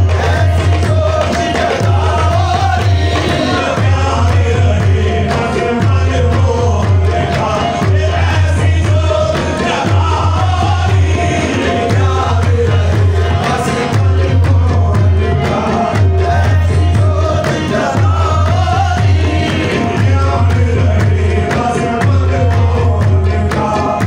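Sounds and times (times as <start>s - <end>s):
percussion beat: 0.0s - 24.0s
voices singing: 0.0s - 24.0s.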